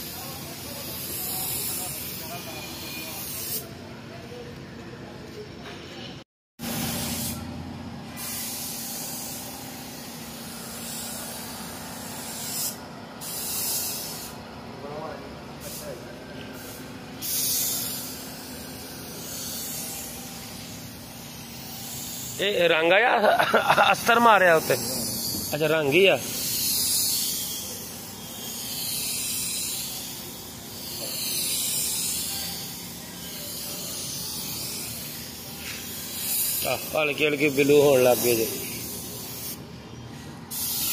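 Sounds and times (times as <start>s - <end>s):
paint spray gun hissing: 0.0s - 3.7s, 6.6s - 14.5s, 15.6s - 40.9s.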